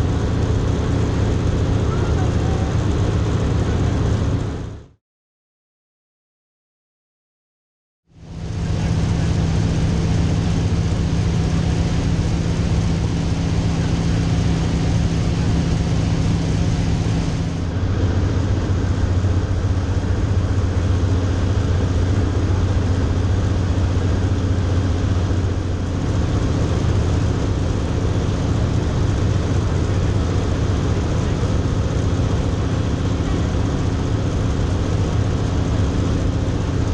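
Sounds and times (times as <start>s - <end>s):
propeller plane engine drone: 0.0s - 5.0s, 8.1s - 36.9s.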